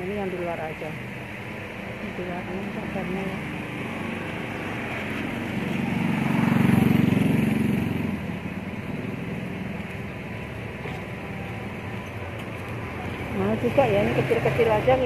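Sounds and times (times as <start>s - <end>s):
engine passing: 0.0s - 15.0s
vehicle interior hum: 0.0s - 15.0s.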